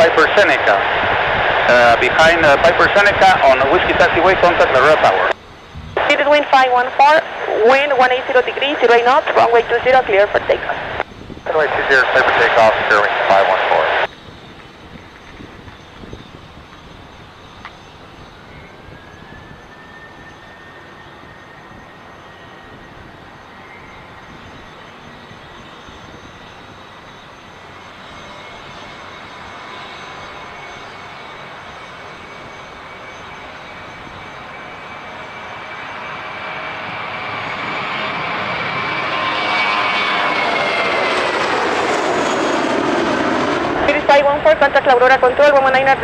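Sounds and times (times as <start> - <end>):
jet engines spooling up: 0.0 - 46.0.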